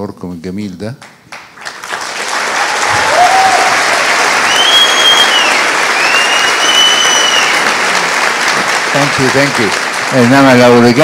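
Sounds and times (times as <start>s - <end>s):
large audience applauding: 1.3s - 11.0s.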